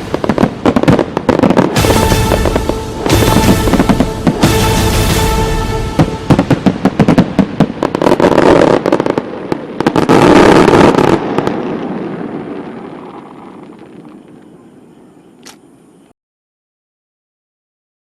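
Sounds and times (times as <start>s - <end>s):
fireworks banging and crackling: 0.0s - 14.6s.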